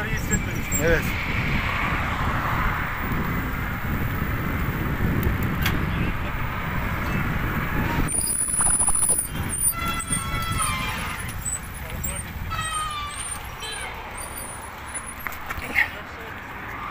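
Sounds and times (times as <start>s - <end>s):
wind buffeting microphone: 0.0s - 13.7s
road noise: 0.0s - 16.9s.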